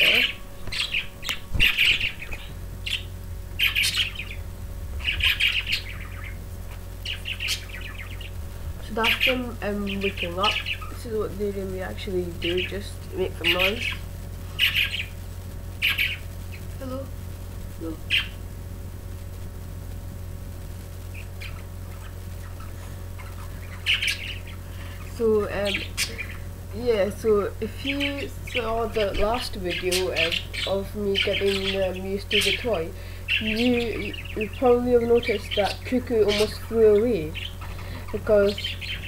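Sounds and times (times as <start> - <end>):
budgerigars chirping and chattering: 0.0 - 15.2, 15.8 - 16.7, 18.0 - 18.4, 21.1 - 39.0
steady low hum: 0.0 - 39.0.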